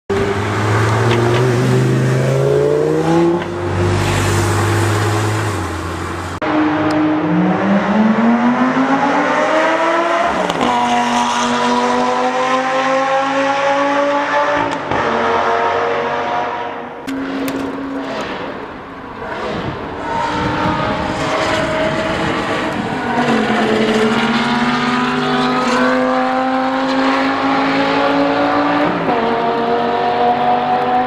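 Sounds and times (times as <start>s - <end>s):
sports car engine accelerating hard: 0.1s - 31.0s.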